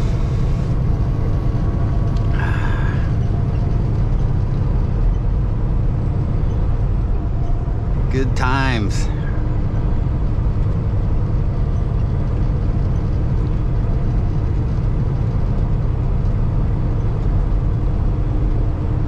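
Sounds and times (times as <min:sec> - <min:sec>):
road noise: 0:00.0 - 0:19.0
truck diesel engine drone: 0:00.0 - 0:19.0.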